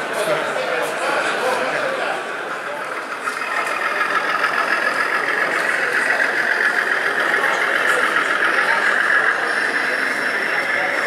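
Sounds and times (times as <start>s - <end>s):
model train humming past: 1.4s - 11.0s.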